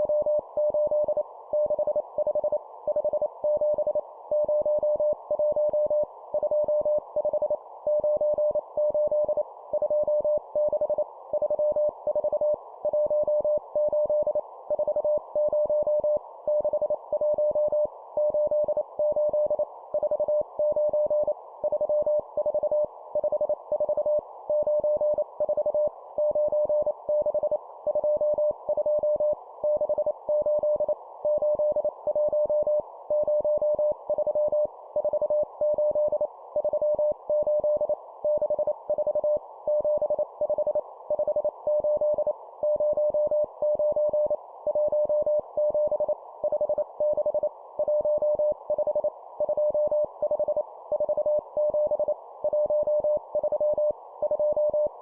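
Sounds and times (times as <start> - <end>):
morse code beeps: 0.0 - 55.0.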